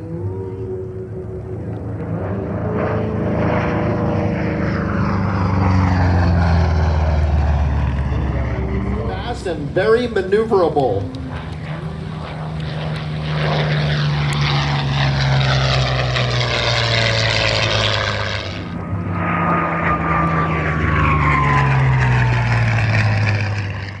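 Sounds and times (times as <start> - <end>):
propeller plane flying past: 0.0 - 24.0.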